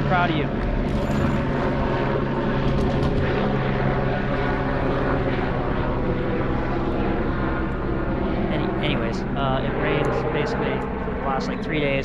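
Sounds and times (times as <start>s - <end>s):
boat motor humming: 0.0s - 11.7s.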